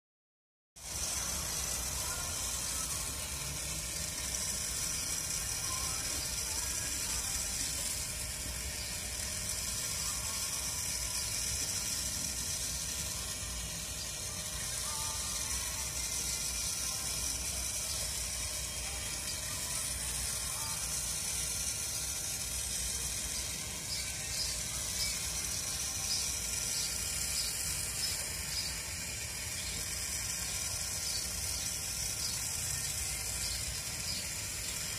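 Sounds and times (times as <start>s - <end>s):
rotisserie motor ticking and whirring: 0.8s - 34.9s.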